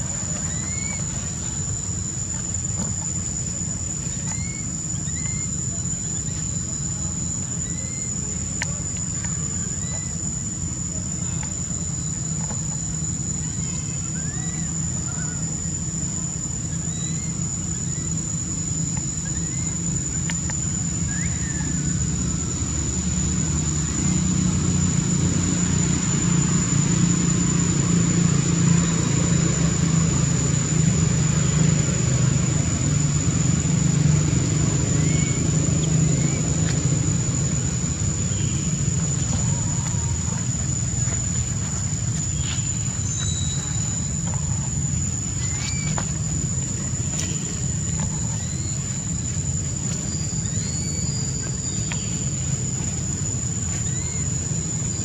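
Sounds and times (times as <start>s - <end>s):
insects droning: 0.0s - 55.0s
vehicle engine running: 0.0s - 55.0s.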